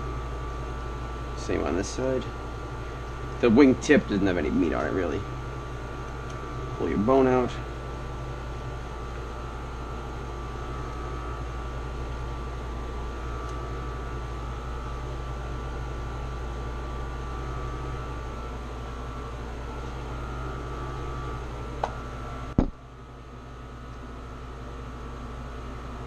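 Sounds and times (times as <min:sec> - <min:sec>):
air conditioner humming: 0:00.0 - 0:26.0.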